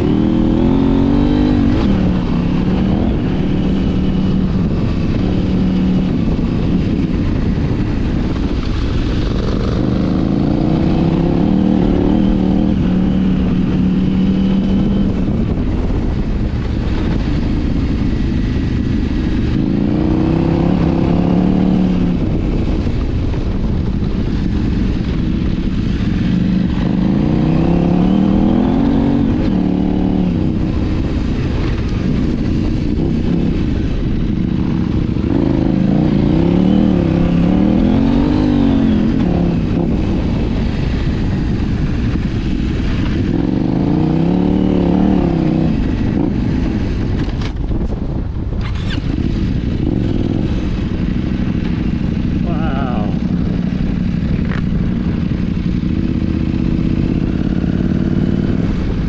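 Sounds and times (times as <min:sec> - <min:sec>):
motorcycle engine revving: 0:00.0 - 0:59.0
wind noise: 0:00.0 - 0:59.0.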